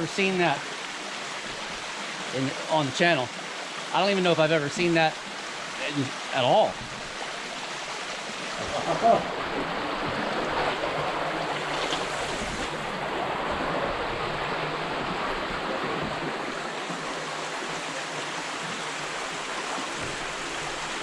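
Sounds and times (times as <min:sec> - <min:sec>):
water rushing through culvert: 0:00.0 - 0:21.0.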